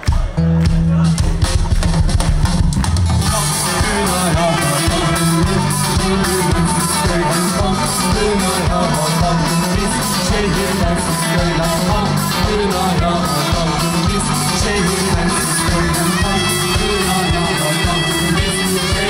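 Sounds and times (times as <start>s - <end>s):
drum kit beat: 0.0s - 19.0s
electric guitar: 0.2s - 19.0s.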